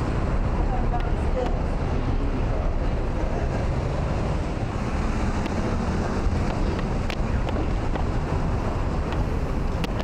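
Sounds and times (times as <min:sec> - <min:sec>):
street traffic: 0:00.0 - 0:10.0
wind rumbling on microphone: 0:00.0 - 0:10.0.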